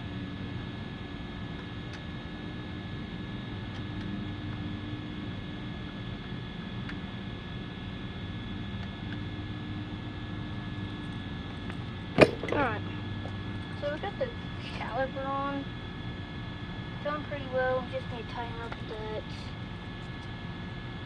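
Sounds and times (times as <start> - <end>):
mechanical hum with tones: 0.0 - 21.0.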